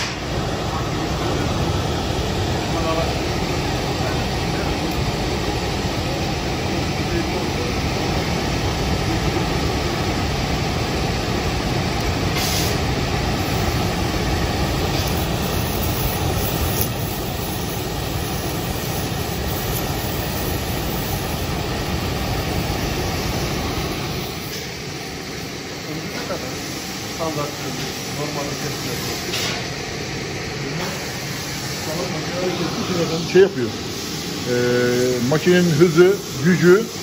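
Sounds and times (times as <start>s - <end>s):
gas torch flame rushing: 0.0s - 37.0s.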